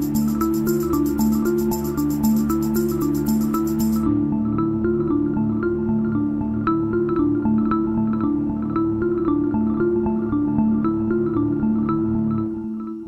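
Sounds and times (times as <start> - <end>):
background music with struck notes: 0.0 - 13.0.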